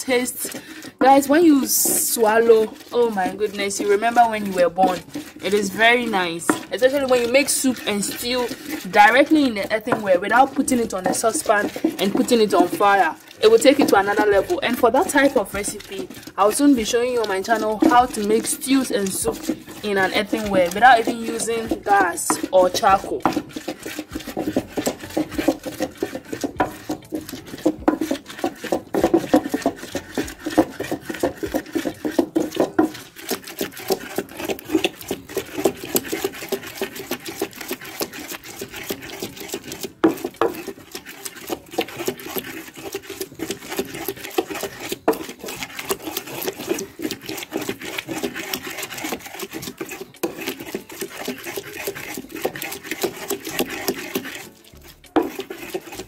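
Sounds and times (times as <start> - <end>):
wooden pestle grinding in clay bowl: 0.0 - 56.0.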